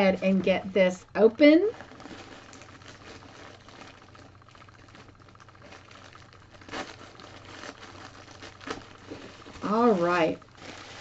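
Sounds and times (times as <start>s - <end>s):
packaging rustling: 1.7s - 11.0s.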